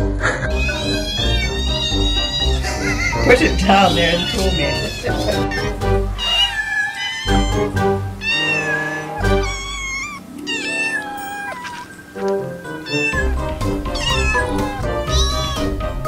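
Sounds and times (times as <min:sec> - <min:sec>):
background music: 0:00.0 - 0:16.0
kittens meowing: 0:00.4 - 0:16.0.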